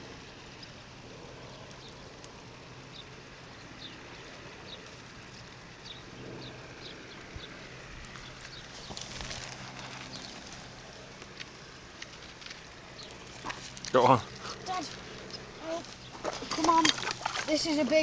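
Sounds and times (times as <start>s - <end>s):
faint steady low hum: 0.0s - 18.0s
outdoor background noise: 0.0s - 18.0s
small bird chirping: 2.8s - 10.8s, 11.4s - 18.0s.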